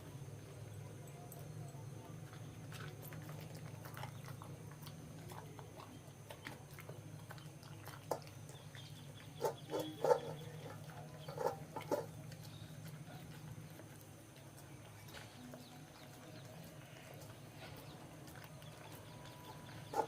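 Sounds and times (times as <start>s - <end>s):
steady low hum: 0.0s - 20.0s
dog crunching food: 1.3s - 20.0s.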